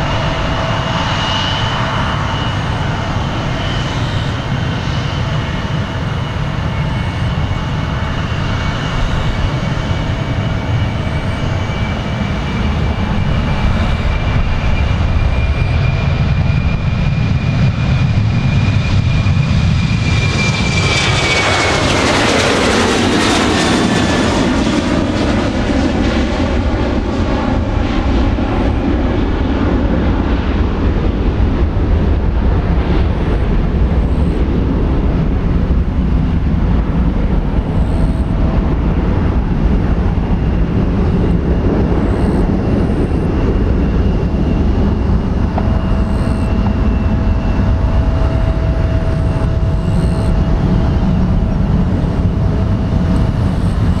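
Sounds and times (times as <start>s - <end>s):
jet engines whining: 0.0s - 54.0s
jet roar climbing away: 0.0s - 54.0s.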